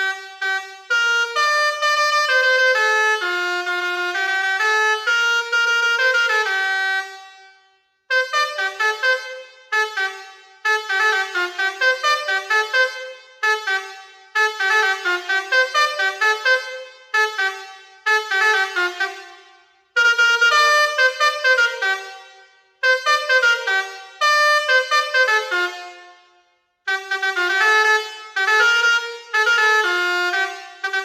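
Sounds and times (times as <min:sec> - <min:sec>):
air horn playing melodies: 0:00.0 - 0:31.0.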